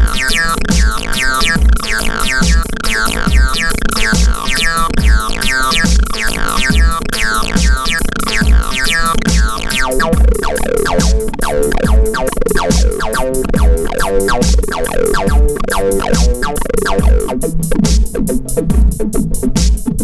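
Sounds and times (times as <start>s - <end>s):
synth notes sweeping downward: 0.0s - 18.7s
heavy kick drum: 0.0s - 20.0s
hi-hat ticks: 0.0s - 20.0s.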